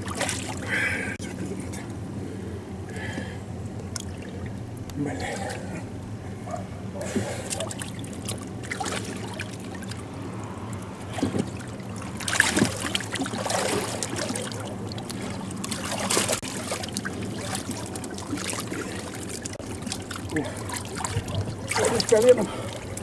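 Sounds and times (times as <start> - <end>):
water splashing and sloshing: 0.0 - 1.9, 3.0 - 23.0.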